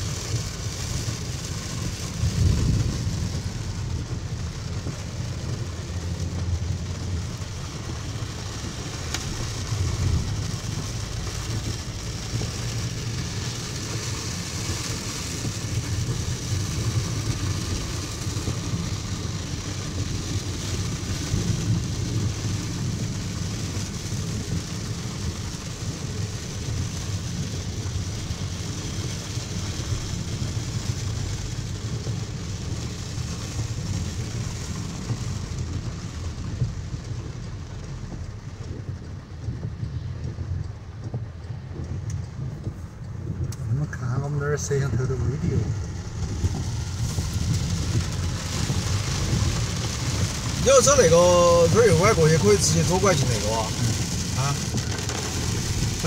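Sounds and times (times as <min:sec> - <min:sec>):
car engine and tyre rumble: 0:00.0 - 0:56.0
rain hissing on car: 0:00.0 - 0:56.0.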